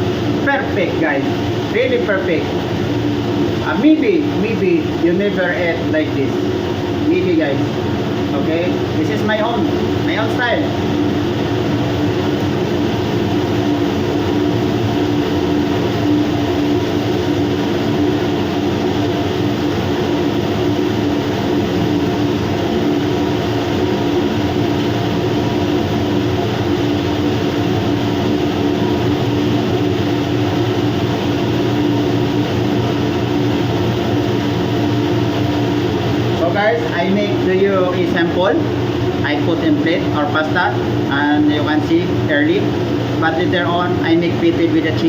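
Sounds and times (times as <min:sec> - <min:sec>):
machinery hum with held tones: 0:00.0 - 0:45.0.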